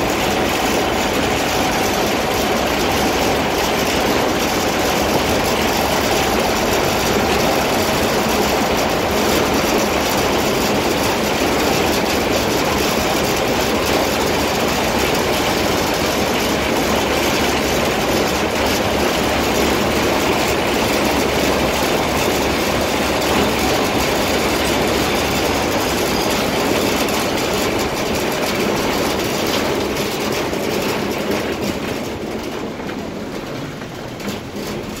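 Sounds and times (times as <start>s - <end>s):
cable car rattling and rumbling: 0.0s - 35.0s.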